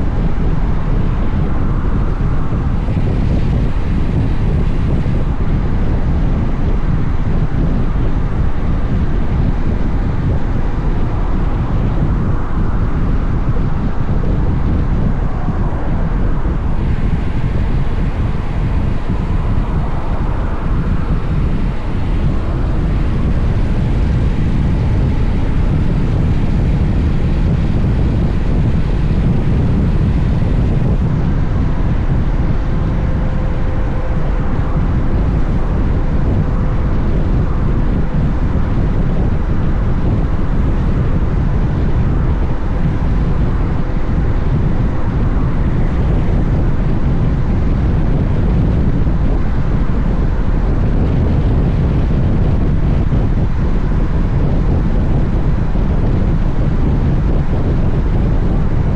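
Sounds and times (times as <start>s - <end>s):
road noise: 0.0s - 53.0s
wind rushing over microphone: 0.0s - 58.9s.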